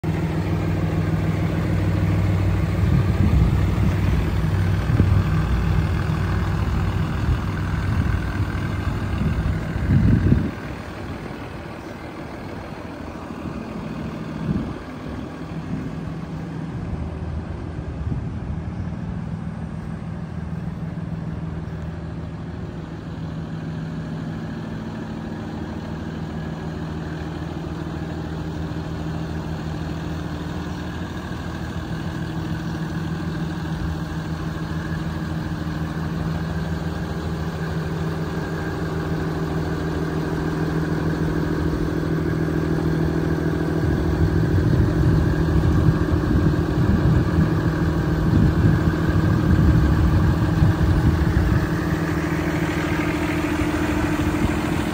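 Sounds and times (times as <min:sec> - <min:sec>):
diesel truck idling: 0:00.0 - 0:54.9.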